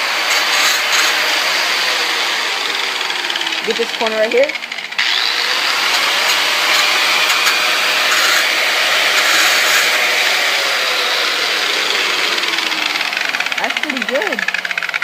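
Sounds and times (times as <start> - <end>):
angle grinder grinding metal: 0.0 - 15.0.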